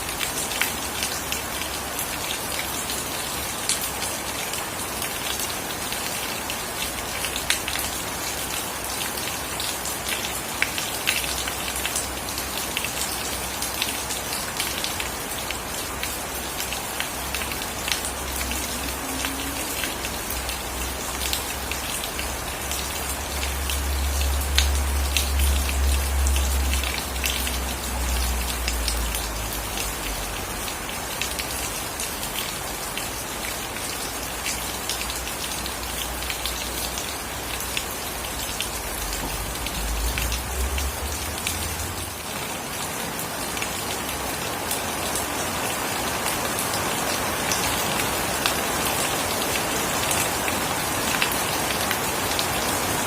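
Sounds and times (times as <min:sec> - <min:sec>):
sharp drips and splats: 0:00.0 - 0:53.0
steady rain: 0:00.0 - 0:53.0.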